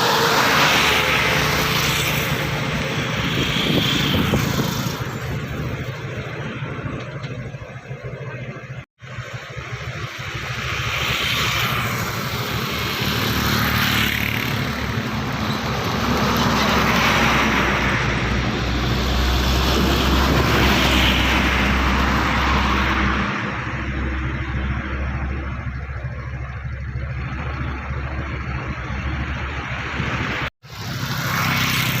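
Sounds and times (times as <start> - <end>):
heavy highway traffic roar: 0.0 - 32.0.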